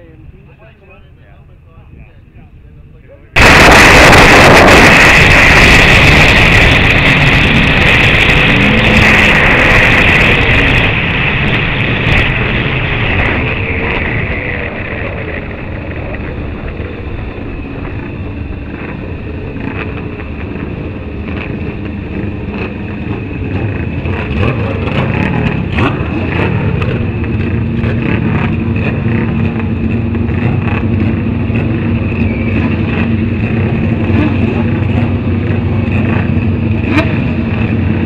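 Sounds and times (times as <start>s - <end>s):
motorcycle engine running: 3.4s - 38.0s
rapid engine ticking: 3.4s - 38.0s
wind buffeting microphone: 3.4s - 38.0s.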